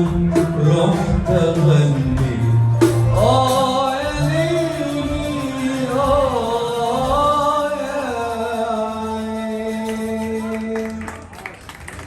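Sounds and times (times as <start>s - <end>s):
man singing: 0.0s - 11.3s
musical accompaniment: 0.0s - 12.0s.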